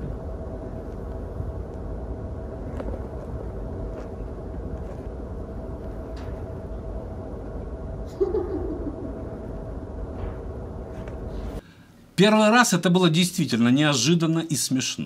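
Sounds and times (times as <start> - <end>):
low rumble and hum: 0.0 - 12.2.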